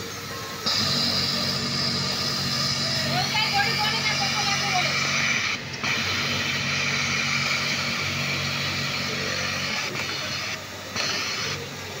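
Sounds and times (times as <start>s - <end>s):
sewing machine whirring: 0.0s - 12.0s.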